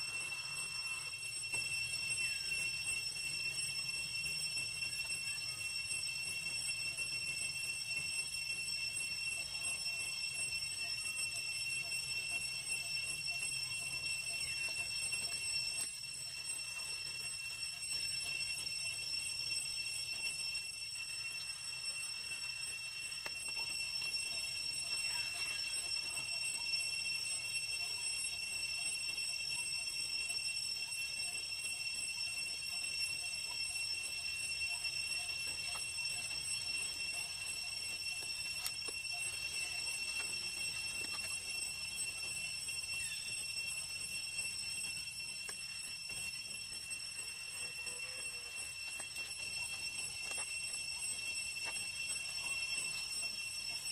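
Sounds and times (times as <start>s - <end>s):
faint outdoor background noise: 0.0s - 53.9s
high-pitched drone of held tones: 0.0s - 53.9s.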